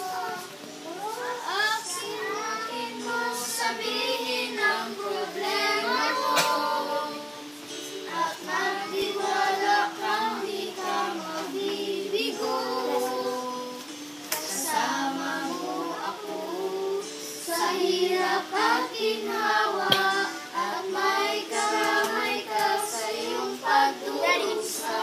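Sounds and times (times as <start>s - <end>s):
woman and girls singing: 0.0s - 25.0s.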